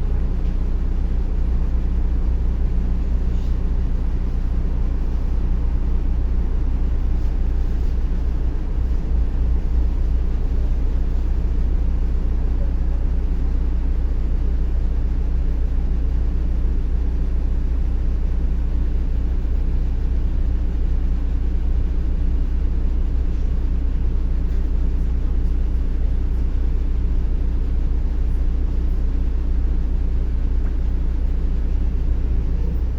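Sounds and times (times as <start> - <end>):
bus engine and road rumble: 0.0 - 32.9.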